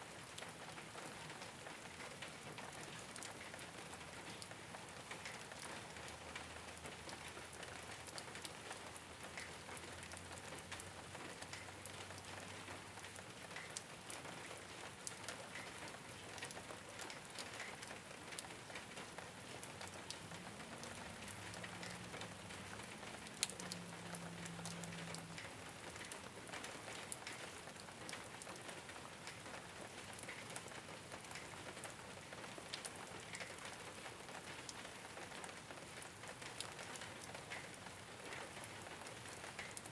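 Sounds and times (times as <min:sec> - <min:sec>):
rain on a rooftop: 0:00.0 - 0:39.9.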